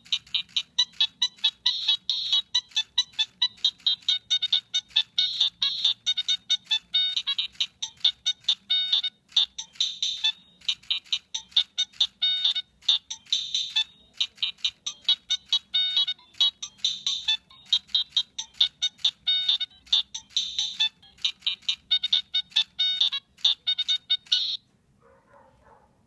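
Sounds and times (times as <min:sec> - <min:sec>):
mobile phone ringtone: 0:00.0 - 0:24.6.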